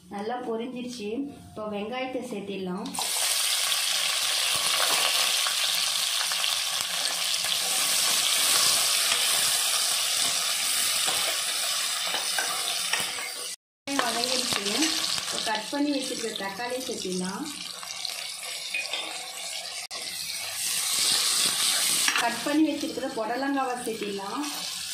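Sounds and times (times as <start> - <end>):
onions sizzling in oil: 3.0 - 24.9.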